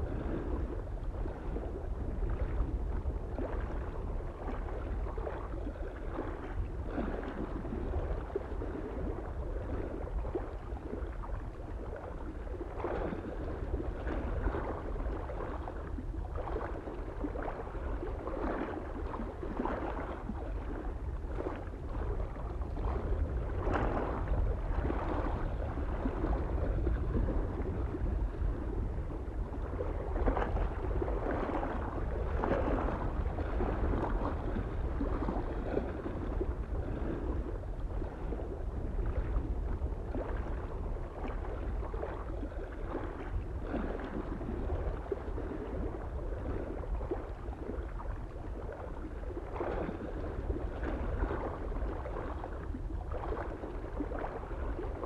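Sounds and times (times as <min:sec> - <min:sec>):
low wind rumble: 0:00.0 - 0:55.0
small waves lapping on shore: 0:00.0 - 0:55.0.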